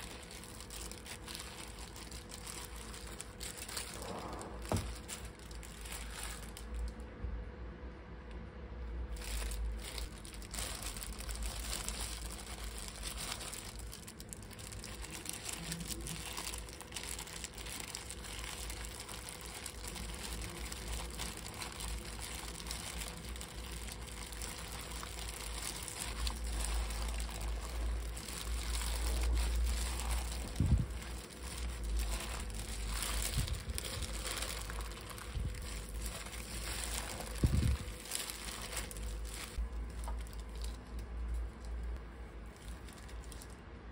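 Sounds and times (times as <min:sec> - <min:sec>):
plastic gloves crinkling: 0:00.0 - 0:07.1, 0:09.0 - 0:43.9.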